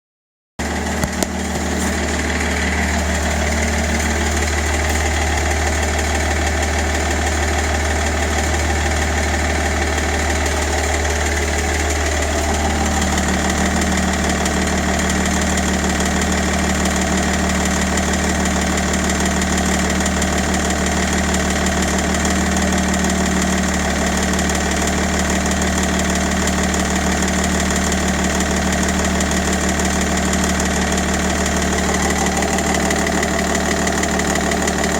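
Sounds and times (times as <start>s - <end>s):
diesel engine idling with knocking: 0.6s - 34.9s.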